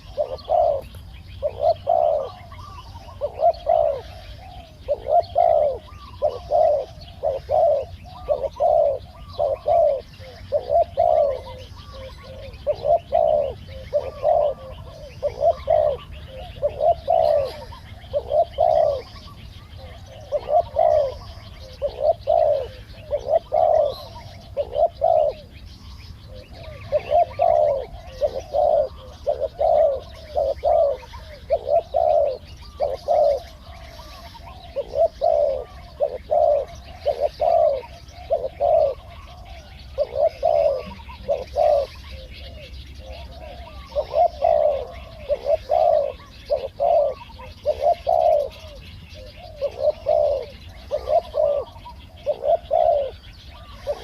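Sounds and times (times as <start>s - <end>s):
doves cooing: 0.0s - 54.0s
small birds chirping faintly: 0.0s - 54.0s.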